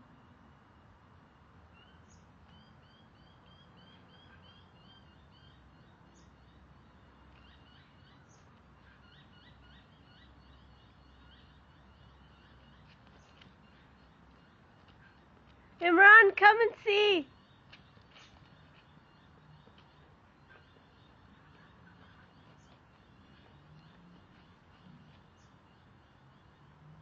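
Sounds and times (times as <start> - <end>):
low background noise: 0.0 - 27.0.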